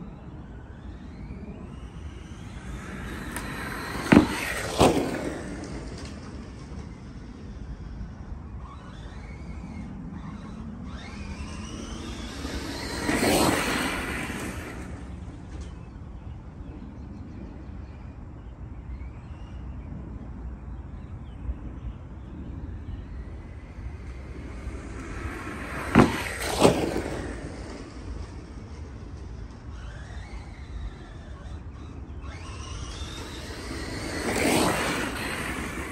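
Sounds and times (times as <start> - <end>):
rc truck motor whining: 0.0 - 35.9.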